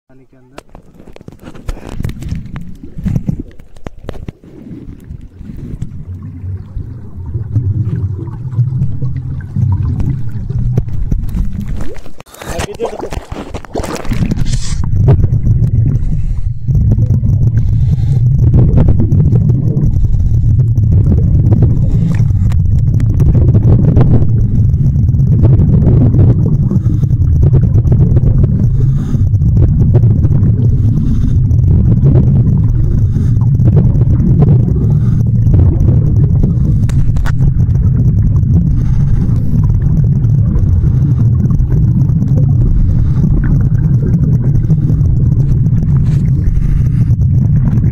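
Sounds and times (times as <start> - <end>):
muffled underwater water rumble: 0.2 - 47.9.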